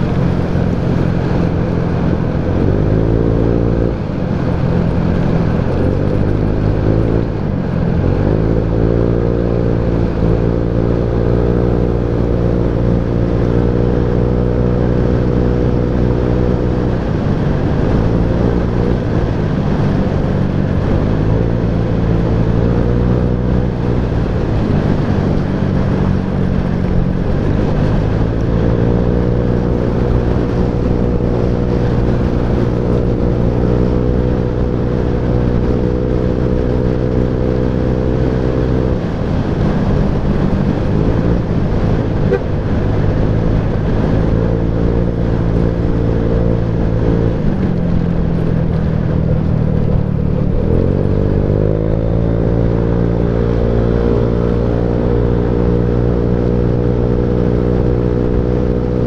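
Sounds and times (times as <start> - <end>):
scooter engine running: 0.0 - 59.0
wind noise on microphone: 0.0 - 59.0.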